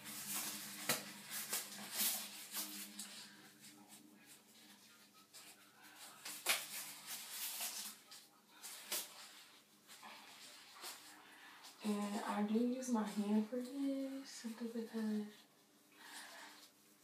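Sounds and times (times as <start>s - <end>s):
handling rustling near microphone: 0.0s - 15.4s.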